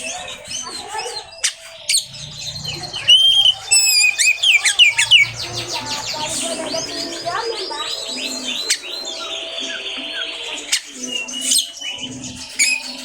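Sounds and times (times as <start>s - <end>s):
bird singing whistles: 0.0s - 13.0s.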